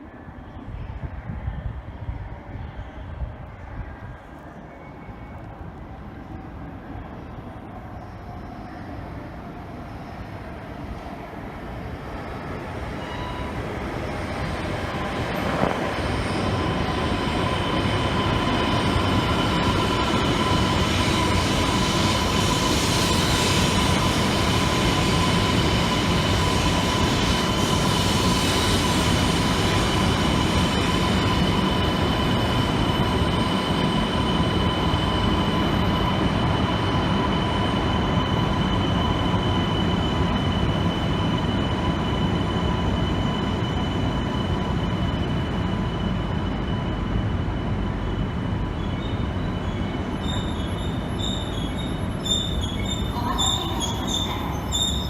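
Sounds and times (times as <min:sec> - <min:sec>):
train running with high whine: 0:00.0 - 0:55.0.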